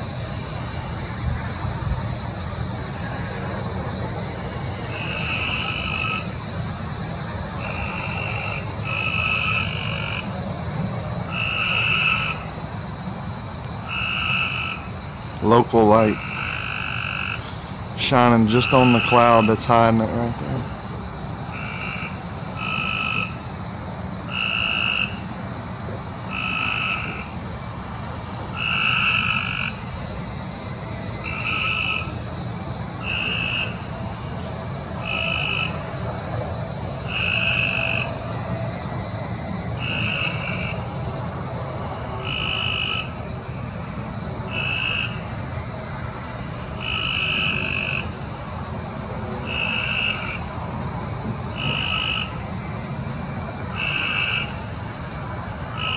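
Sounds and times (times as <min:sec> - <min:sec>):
frog croaking: 0:00.0 - 0:55.9
steady high-pitched hum: 0:00.0 - 0:55.9.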